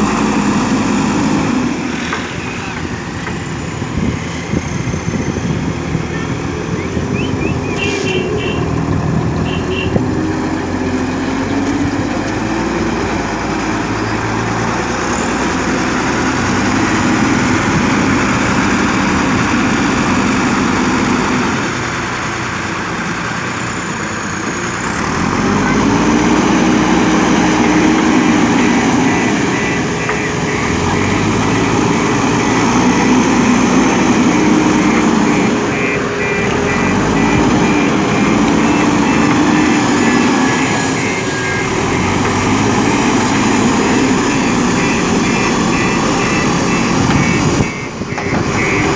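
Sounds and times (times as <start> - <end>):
backhoe diesel engine working: 0.0 - 48.9.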